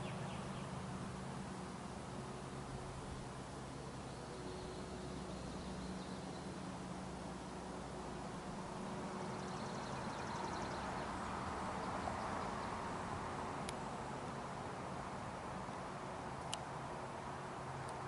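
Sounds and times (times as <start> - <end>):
soft rush of noise: 0.0 - 18.0.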